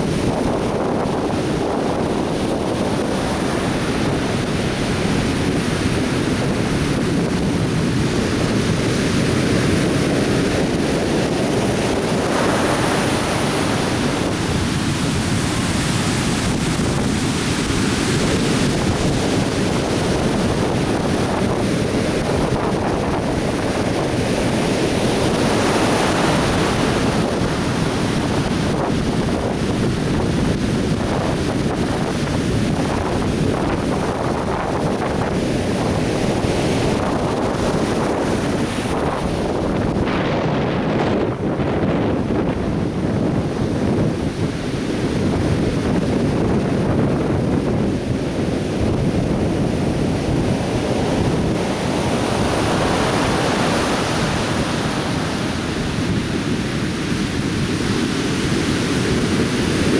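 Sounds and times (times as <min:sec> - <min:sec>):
surf breaking on a beach: 0:00.0 - 0:59.9
wind buffeting microphone: 0:00.0 - 0:59.9.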